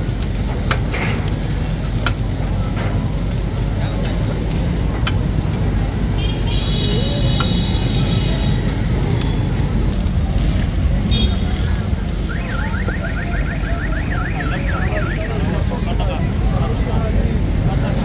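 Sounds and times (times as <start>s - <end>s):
street noise rumble: 0.0s - 18.0s.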